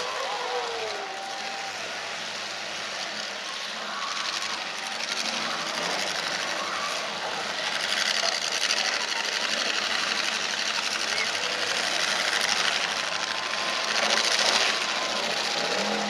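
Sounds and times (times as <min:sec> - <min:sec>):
car engines revving hard: 0:00.8 - 0:16.0.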